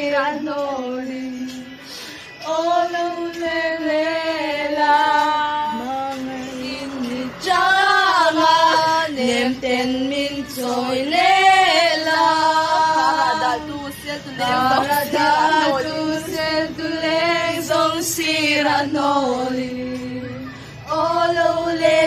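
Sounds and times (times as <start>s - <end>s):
woman singing slow melody: 0.0s - 22.0s.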